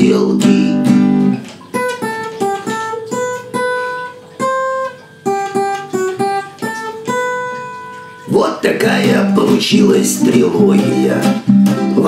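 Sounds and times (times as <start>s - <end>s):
acoustic guitar strumming and picking: 0.0s - 12.0s.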